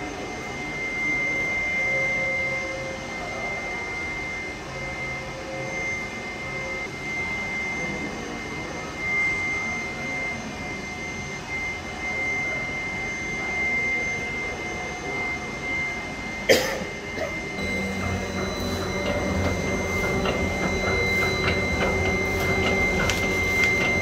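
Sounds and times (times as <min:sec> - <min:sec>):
high whine: 0:00.0 - 0:24.0
printing machine mechanical hum: 0:00.0 - 0:24.0.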